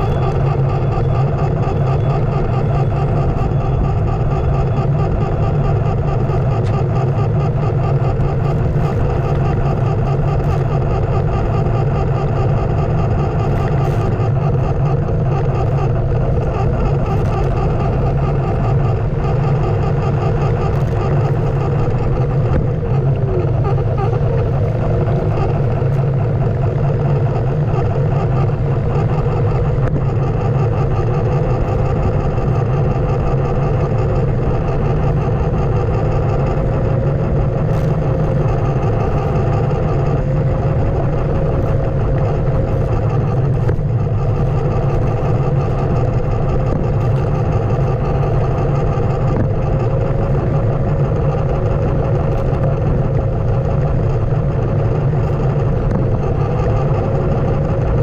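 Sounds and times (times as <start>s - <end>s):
electric motor whine: 0.0s - 58.0s
wheel rolling rumble on pavement: 0.0s - 58.0s.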